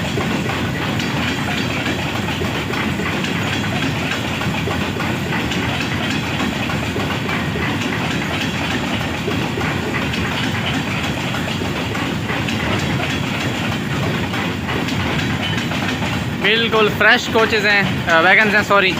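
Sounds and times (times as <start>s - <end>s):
train wagons rumbling past: 0.0s - 18.9s
wheels clattering over rail joints: 0.0s - 18.9s.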